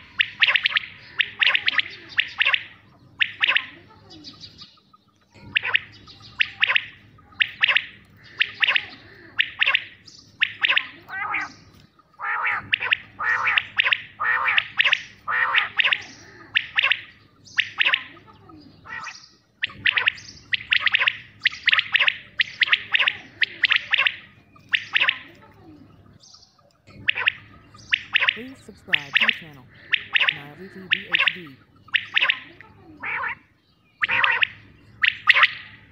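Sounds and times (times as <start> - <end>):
quail calling: 0.0 - 35.9.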